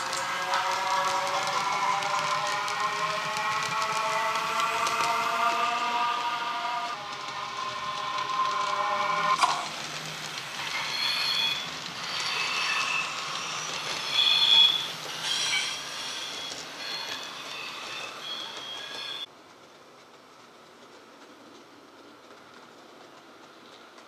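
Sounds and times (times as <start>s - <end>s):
electric train whine: 0.0s - 19.3s
train running noise: 0.0s - 24.0s.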